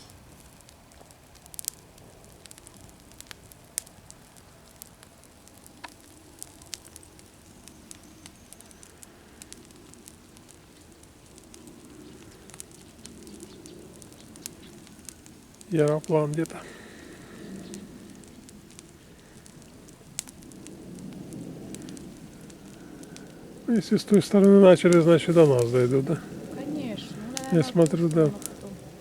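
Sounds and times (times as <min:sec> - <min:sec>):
bonfire crackling: 0:00.0 - 0:29.0
distant aeroplane drone: 0:00.0 - 0:29.0
sharp pops of fire: 0:00.0 - 0:29.0.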